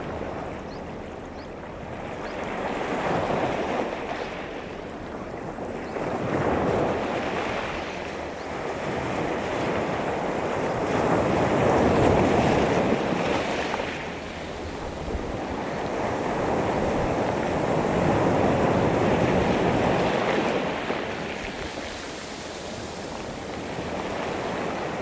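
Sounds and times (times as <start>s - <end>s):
waves breaking on beach: 1.8s - 25.0s.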